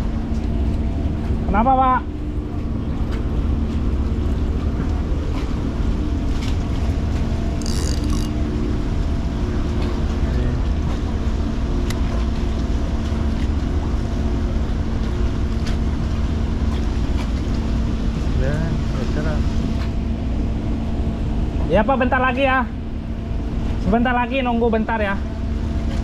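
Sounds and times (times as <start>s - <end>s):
boat engine idling: 0.0s - 25.9s.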